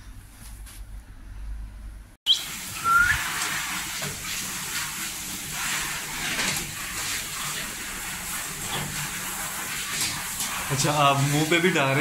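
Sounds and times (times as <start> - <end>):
shower hose water spraying: 2.3 - 12.0.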